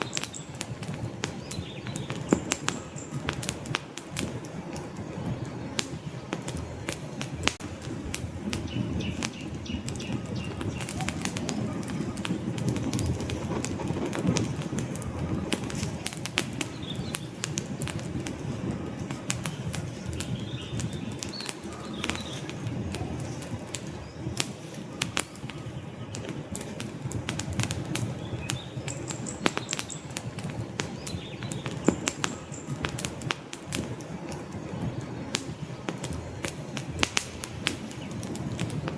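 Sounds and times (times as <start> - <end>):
logs crackling and popping: 0.0 - 38.9
low rush of flames: 0.0 - 38.9.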